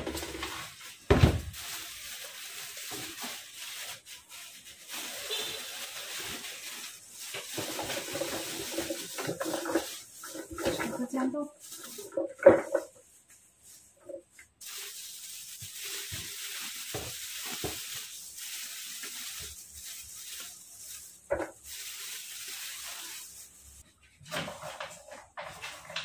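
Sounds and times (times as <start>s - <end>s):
plastic bag crinkling: 0.0s - 23.9s.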